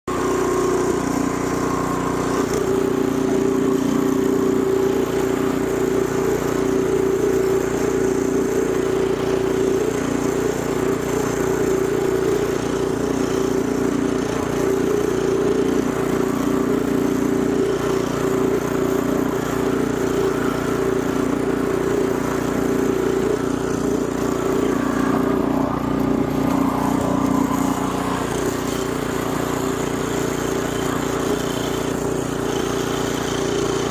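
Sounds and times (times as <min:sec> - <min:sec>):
snow blower engine running: 0:00.1 - 0:33.9.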